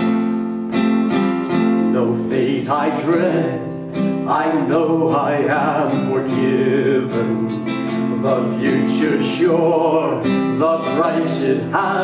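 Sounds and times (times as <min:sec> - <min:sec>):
acoustic guitar: 0:00.0 - 0:12.0
man singing a hymn: 0:01.8 - 0:12.0.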